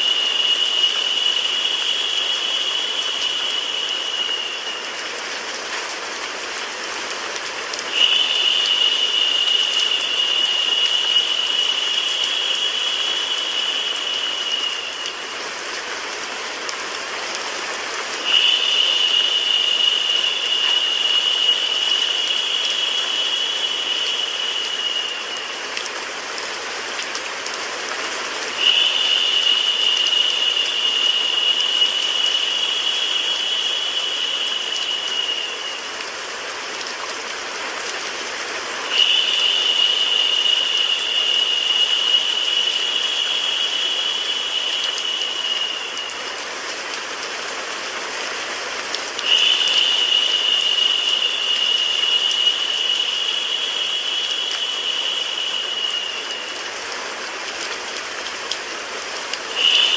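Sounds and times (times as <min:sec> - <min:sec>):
high narrow hiss: 0:00.0 - 0:26.9, 0:27.6 - 0:59.9
rain hiss with white noise: 0:00.0 - 0:59.9.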